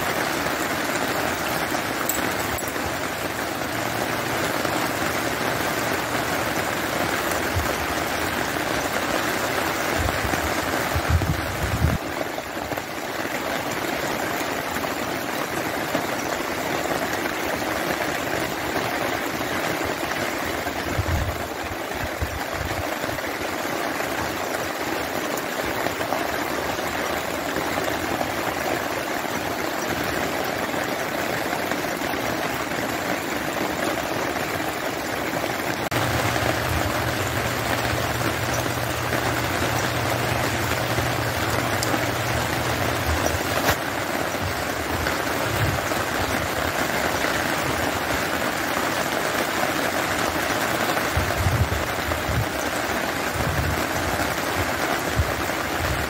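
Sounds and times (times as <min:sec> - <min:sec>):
rain falling on wet ground: 0:00.0 - 0:56.0.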